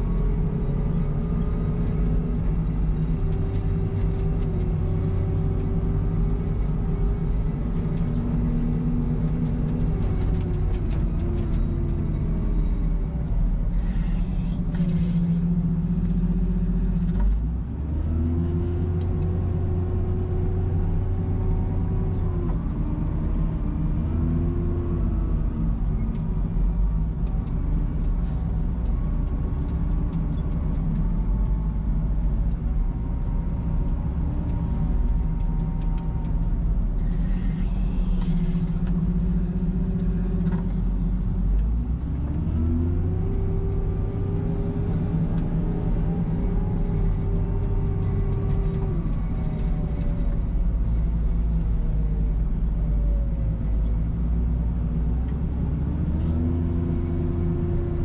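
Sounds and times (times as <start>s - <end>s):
wheel loader diesel engine: 0.0s - 58.0s.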